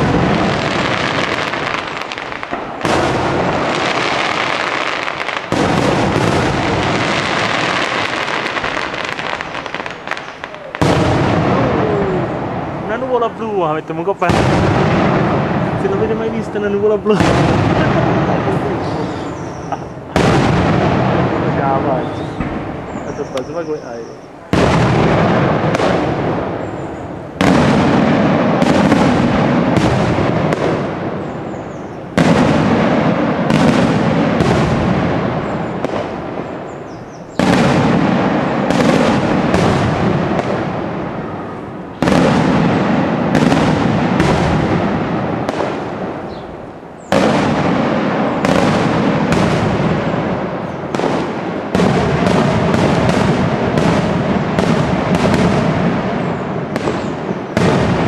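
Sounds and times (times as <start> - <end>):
fireworks bursting with loud bangs: 0.0 - 58.0.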